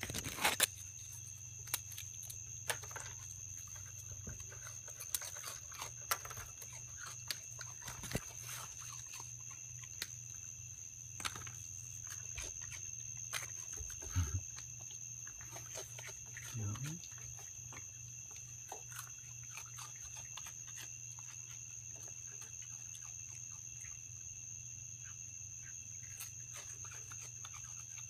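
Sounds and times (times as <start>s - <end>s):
raccoons crunching crackers: 0.0s - 28.0s.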